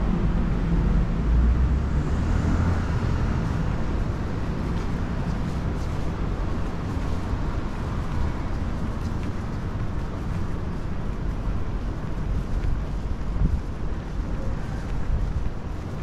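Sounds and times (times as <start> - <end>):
city street rumble: 0.0 - 16.0.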